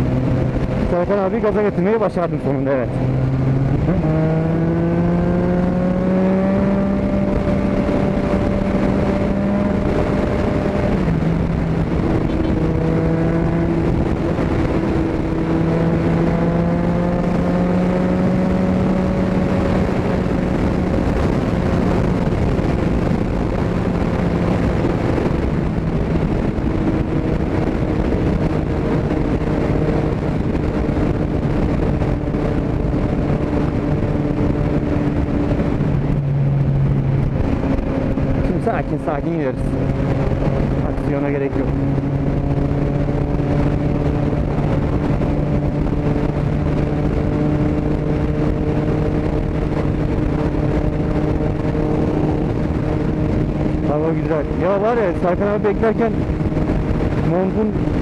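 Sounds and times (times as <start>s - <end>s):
motorcycle engine accelerating: 0.0s - 58.0s
wind rush on microphone: 0.0s - 58.0s.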